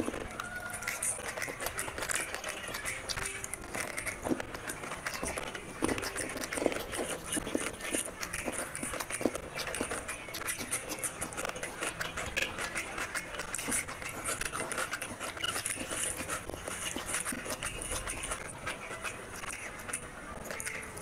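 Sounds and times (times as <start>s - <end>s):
bite of raw onion: 0.0s - 20.8s
chewing and wet mouth smacks: 0.0s - 21.0s.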